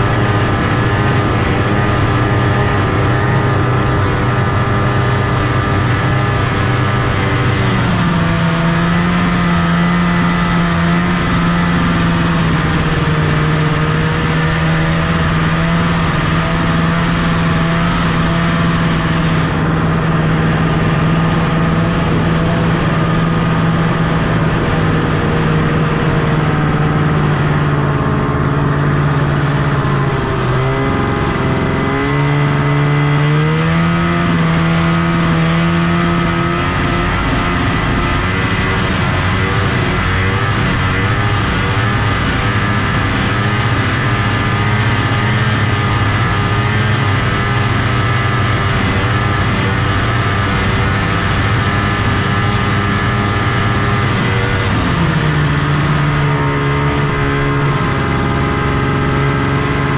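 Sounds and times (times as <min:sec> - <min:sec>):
snowmobile two-stroke engine running: 0:00.0 - 0:59.9.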